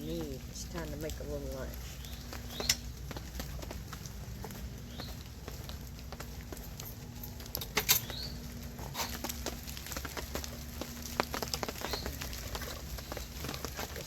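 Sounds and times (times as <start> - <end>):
cooking gear clicking and clattering: 0.0 - 14.0.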